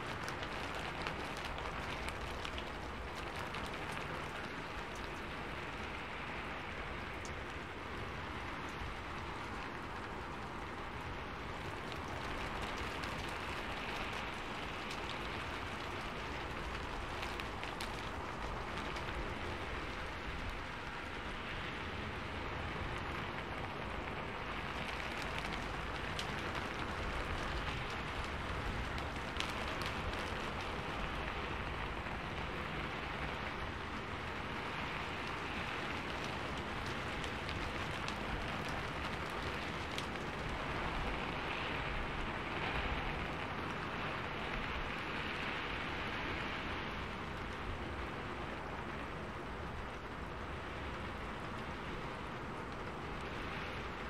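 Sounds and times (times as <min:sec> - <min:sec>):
sharper raindrops: 0:00.0 - 0:54.0
steady rainfall: 0:00.0 - 0:54.0.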